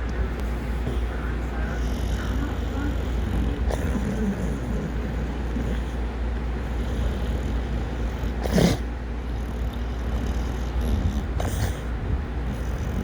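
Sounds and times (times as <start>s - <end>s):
dog snoring: 0.7s - 13.0s.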